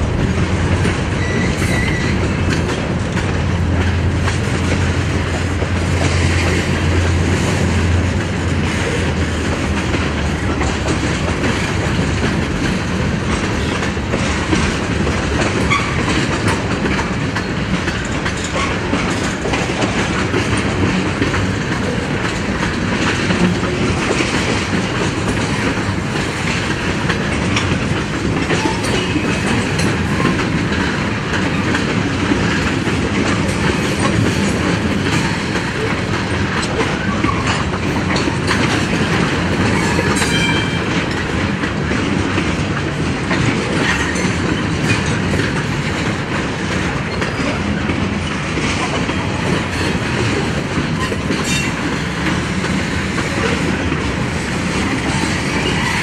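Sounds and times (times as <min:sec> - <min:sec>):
freight train wheels clattering: 0:00.0 - 0:56.0.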